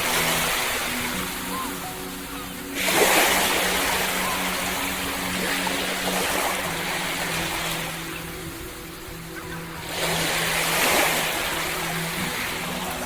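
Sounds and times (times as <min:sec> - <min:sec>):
ocean waves washing up: 0:00.0 - 0:13.0.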